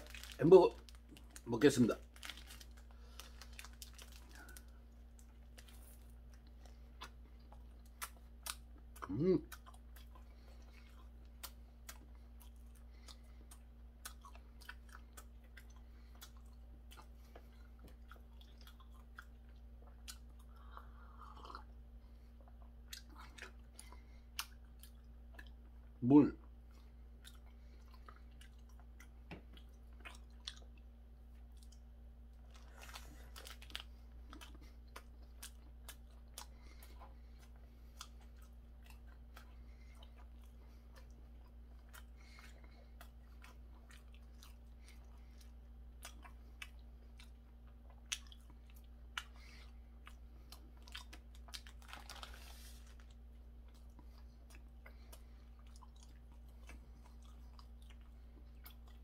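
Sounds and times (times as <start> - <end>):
faint low hum: 0.0 - 59.0
person chewing food: 0.0 - 59.0.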